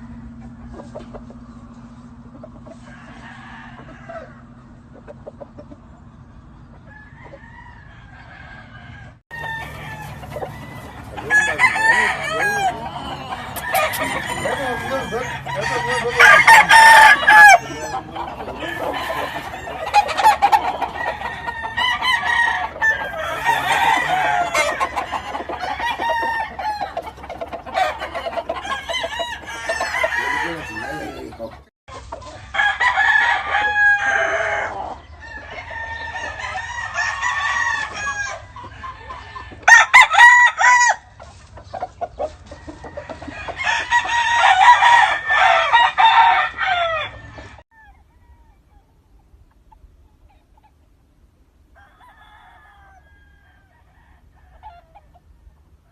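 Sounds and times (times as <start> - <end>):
roosters crowing: 0.0 - 49.4, 51.6 - 55.9.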